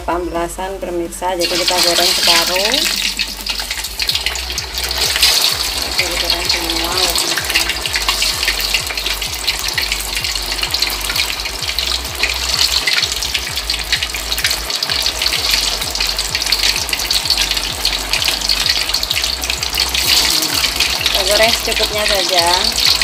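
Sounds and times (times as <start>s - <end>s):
food deep-frying in hot oil: 0.0s - 23.0s.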